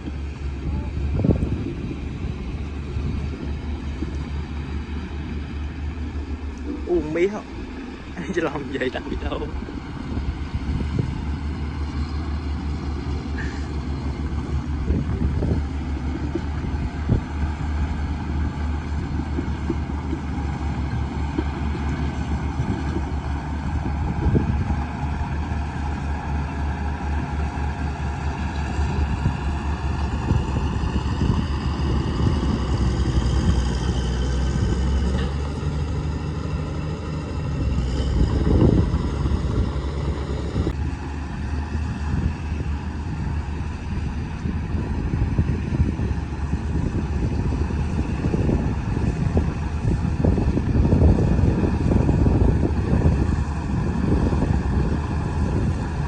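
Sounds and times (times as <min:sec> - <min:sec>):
bulldozer diesel engine under load: 0:00.0 - 0:56.0
low clatter: 0:00.0 - 0:56.0.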